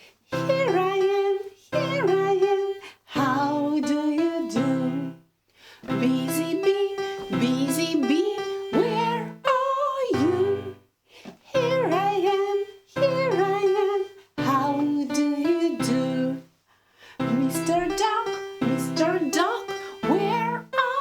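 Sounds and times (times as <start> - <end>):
person singing: 0.3 - 5.2, 5.9 - 10.8, 11.6 - 16.4, 17.2 - 21.0.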